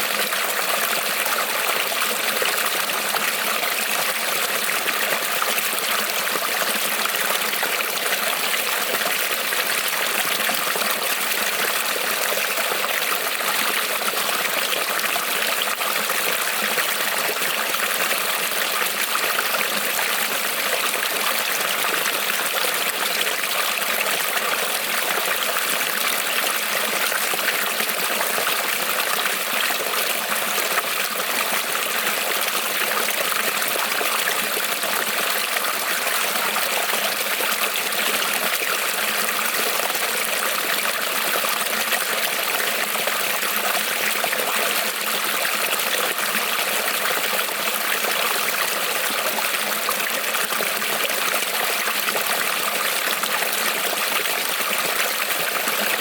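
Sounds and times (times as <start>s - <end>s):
creek trickling over stones: 0.0s - 56.0s.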